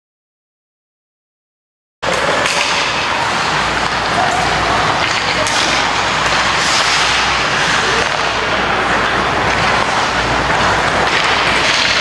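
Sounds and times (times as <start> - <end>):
loud steady rushing noise: 2.0 - 12.0.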